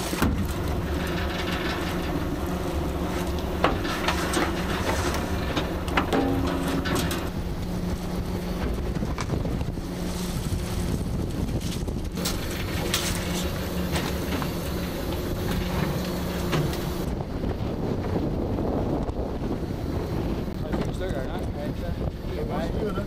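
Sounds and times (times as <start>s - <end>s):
boat engine humming: 0.0s - 23.0s
wind on microphone: 0.0s - 23.0s.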